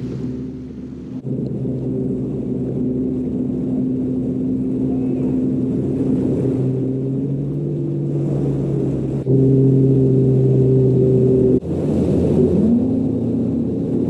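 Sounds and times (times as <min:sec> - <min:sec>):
outboard motor droning: 0:00.0 - 0:14.0.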